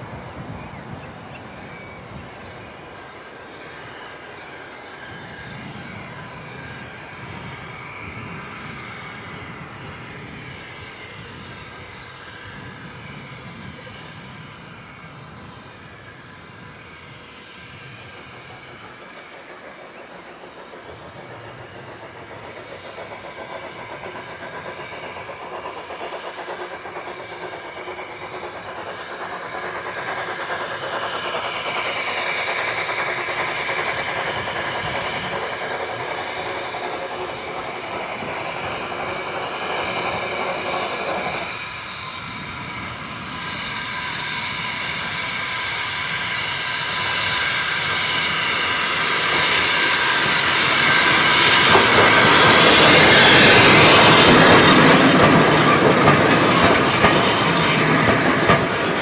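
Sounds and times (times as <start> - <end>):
steam locomotive working: 0.0 - 59.0
wheels rattling on rails: 0.0 - 59.0.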